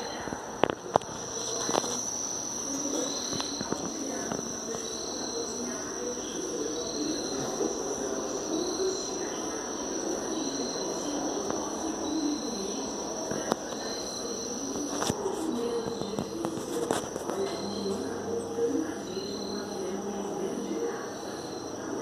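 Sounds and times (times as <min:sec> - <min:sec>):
faint low murmur: 0:00.0 - 0:22.0
insect trill: 0:00.0 - 0:22.0.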